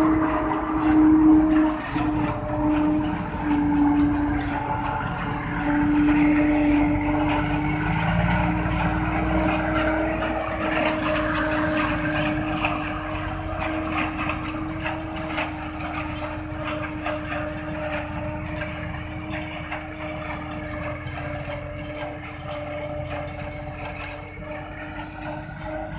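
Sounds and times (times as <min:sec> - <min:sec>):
harvester machine humming: 0:00.0 - 0:25.9.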